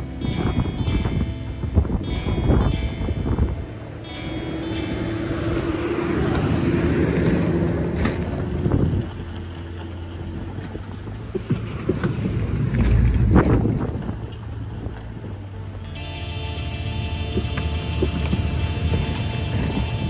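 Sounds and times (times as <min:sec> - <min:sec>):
car engine and tyre noise: 0:00.0 - 0:20.0
low rumble: 0:00.0 - 0:20.0
steady low hum: 0:00.0 - 0:20.0.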